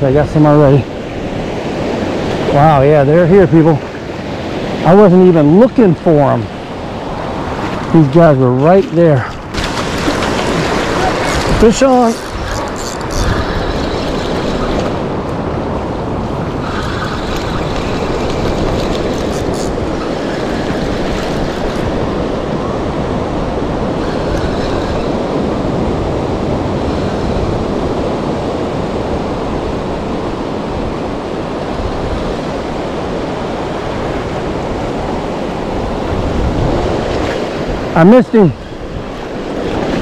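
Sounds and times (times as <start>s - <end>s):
surf washing onto beach: 0.0s - 40.0s
wind buffeting microphone: 0.0s - 40.0s.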